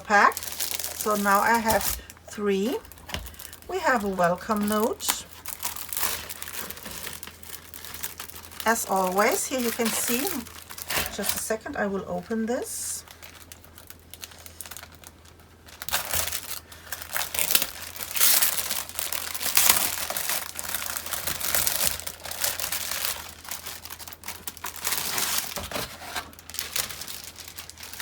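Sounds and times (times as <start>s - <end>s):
packaging crinkling and tearing: 0.0s - 11.5s, 13.0s - 28.0s.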